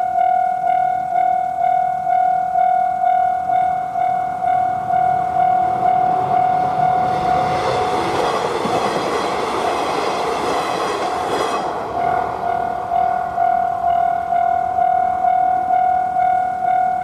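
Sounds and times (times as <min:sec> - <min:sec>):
train rail noise: 0:00.0 - 0:17.0.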